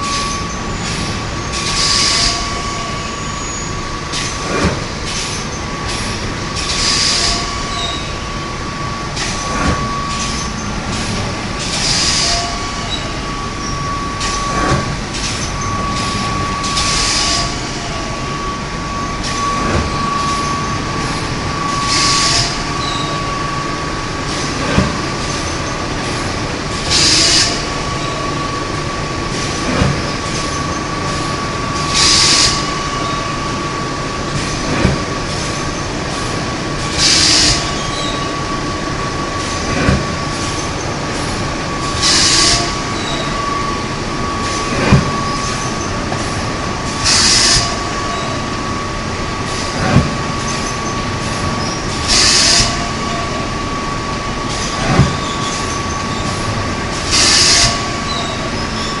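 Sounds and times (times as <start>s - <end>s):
machine hum with whine: 0.0s - 59.0s.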